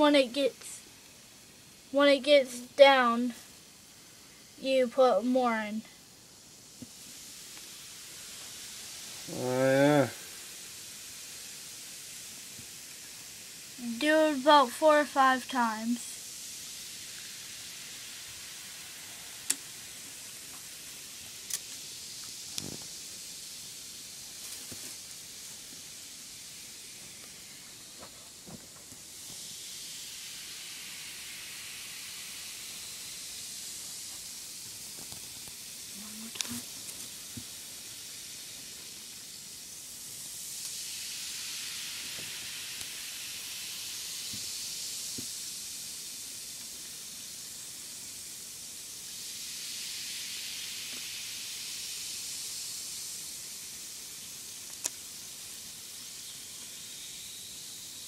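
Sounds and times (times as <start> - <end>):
baking soda and vinegar fizzing: 0.0 - 58.0.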